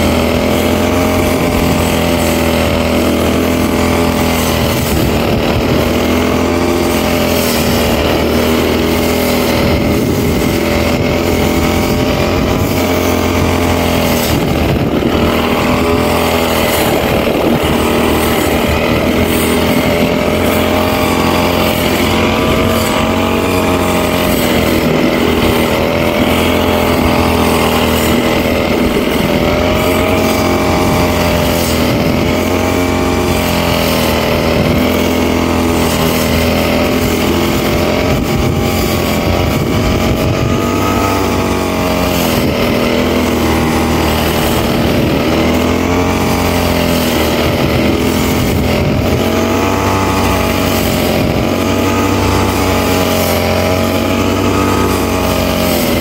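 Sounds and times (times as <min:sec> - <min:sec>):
brush cutter engine running: 0:00.0 - 0:56.0.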